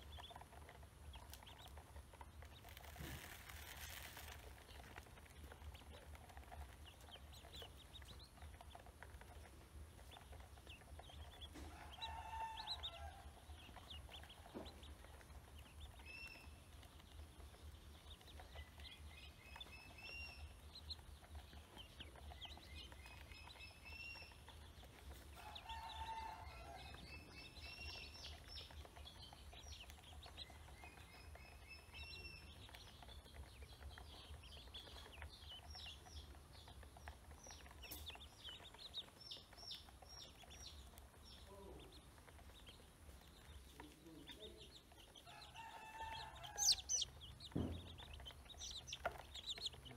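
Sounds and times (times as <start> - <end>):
ducklings peeping: 0.0 - 49.9.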